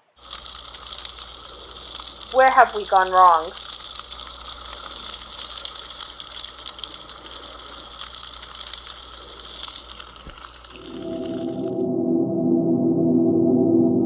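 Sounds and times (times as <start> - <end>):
fire crackling: 0.0 - 11.9.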